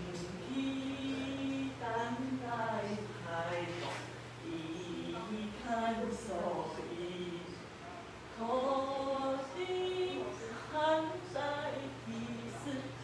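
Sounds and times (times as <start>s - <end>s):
woman chanting: 0.0s - 7.6s, 8.3s - 13.0s
steady low hum: 0.0s - 13.0s.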